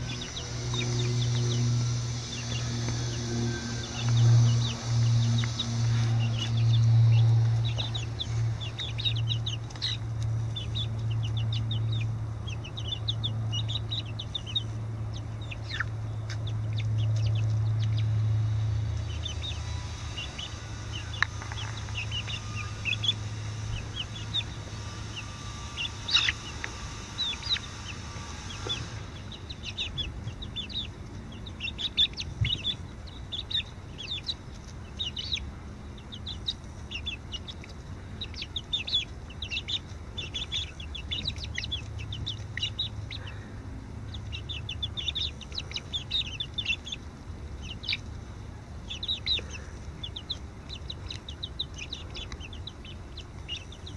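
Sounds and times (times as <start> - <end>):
chicks peeping and chirping: 0.0 - 53.9
low steady hum: 0.0 - 53.9.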